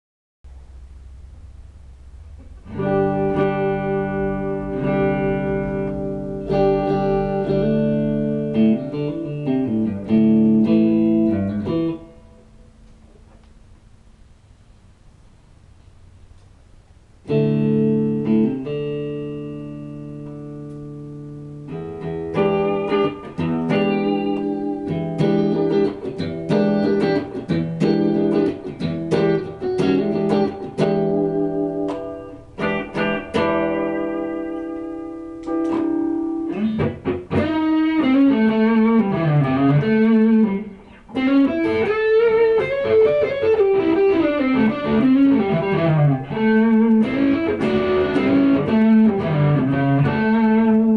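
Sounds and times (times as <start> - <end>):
solo electric guitar: 0.5 - 15.0, 15.8 - 50.9.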